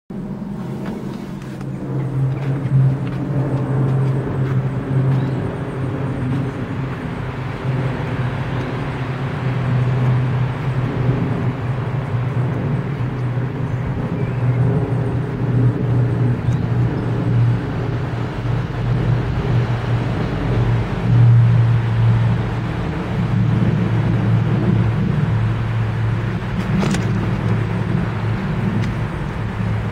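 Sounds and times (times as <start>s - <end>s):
car engine idling: 0.2s - 29.9s.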